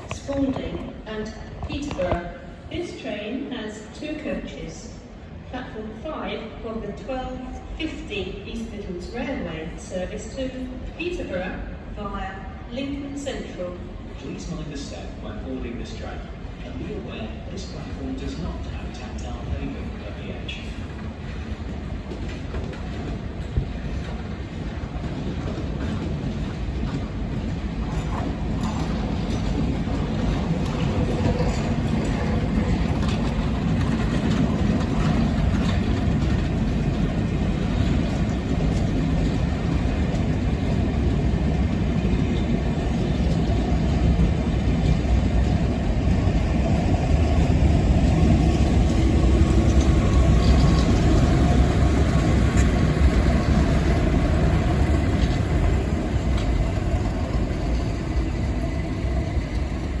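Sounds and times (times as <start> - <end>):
diesel locomotive engine rumbling: 0.0 - 60.0.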